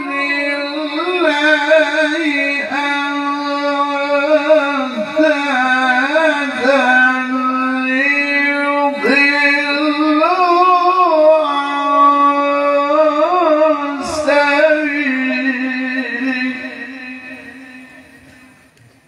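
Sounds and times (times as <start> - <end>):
man reciting melodically: 0.0 - 18.8.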